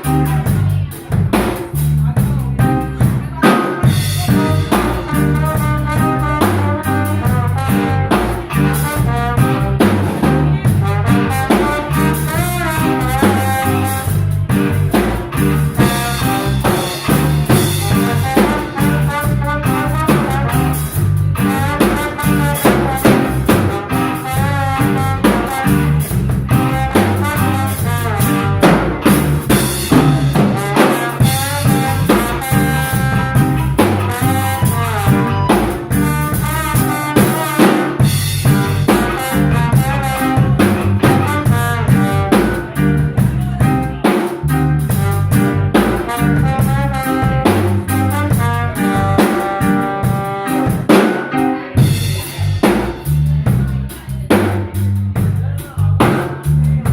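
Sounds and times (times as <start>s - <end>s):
drum kit: 0.0s - 56.9s
live band playing: 0.0s - 56.9s.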